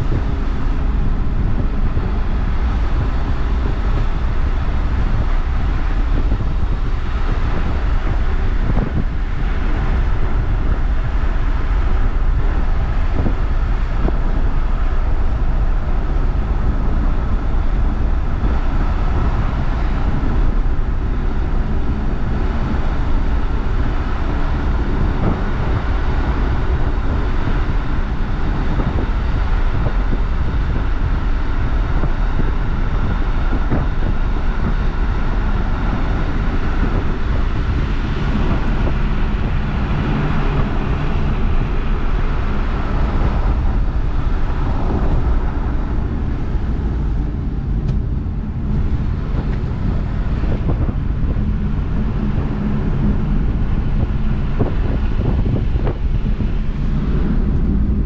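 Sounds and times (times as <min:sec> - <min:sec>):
car cabin road rumble: 0:00.0 - 0:58.0
tyre and wind hiss: 0:00.0 - 0:58.0.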